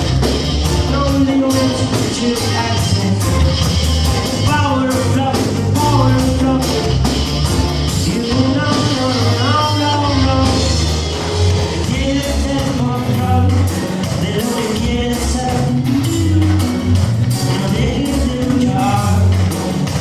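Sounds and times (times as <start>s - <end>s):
band playing: 0.0s - 20.0s
gliding melodic lead line: 0.0s - 20.0s
steady bass line: 0.0s - 20.0s.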